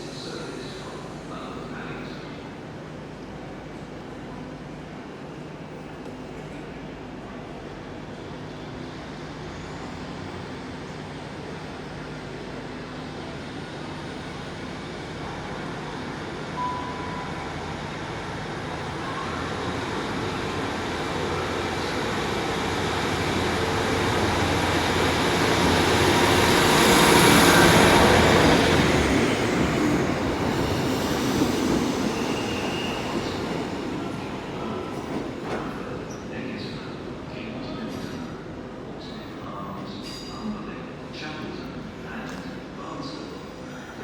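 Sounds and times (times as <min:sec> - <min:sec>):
passenger train passing: 0:00.0 - 0:44.0
train high whine: 0:00.0 - 0:44.0.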